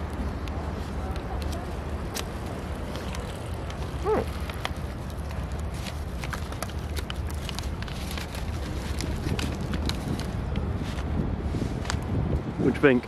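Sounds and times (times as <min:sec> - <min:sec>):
low traffic rumble: 0:00.0 - 0:13.0
paper wrapper crackling: 0:00.1 - 0:11.1.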